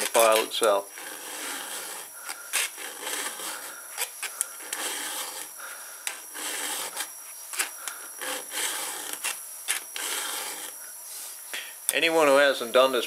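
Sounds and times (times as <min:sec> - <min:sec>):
file rasping on chainsaw chain: 0:00.0 - 0:10.8.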